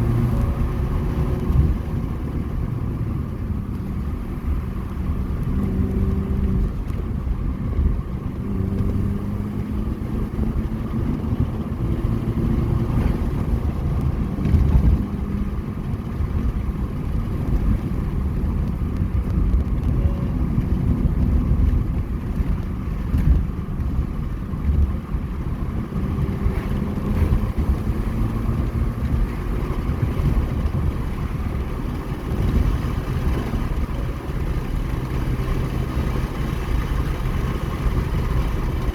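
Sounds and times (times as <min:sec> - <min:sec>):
car engine accelerating: 0:00.0 - 0:38.9
low road rumble: 0:00.0 - 0:38.9.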